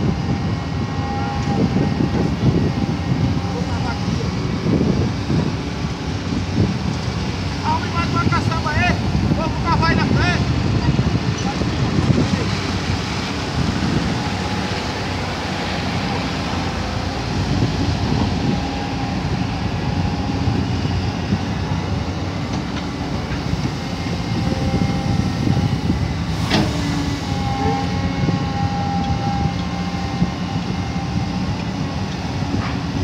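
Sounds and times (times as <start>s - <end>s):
excavator diesel engine: 0.0s - 33.0s
hydraulic whine: 0.0s - 33.0s.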